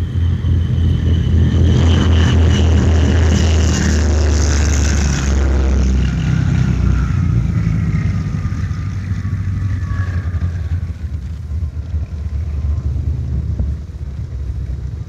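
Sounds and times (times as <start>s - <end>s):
aircraft piston engines droning: 0.0s - 15.0s.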